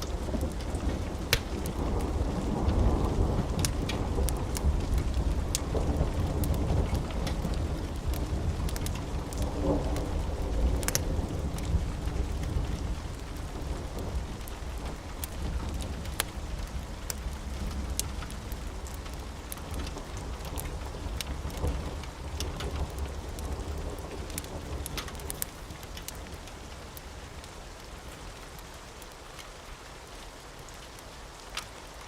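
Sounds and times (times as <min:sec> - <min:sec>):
rolling thunder: 0:00.0 - 0:26.4
steady rain: 0:00.0 - 0:32.0
wood fire crackling: 0:00.0 - 0:32.0.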